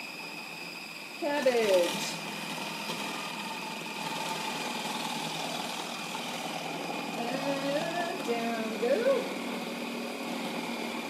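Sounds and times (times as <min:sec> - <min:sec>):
food processor motor whining: 0:00.0 - 0:11.0.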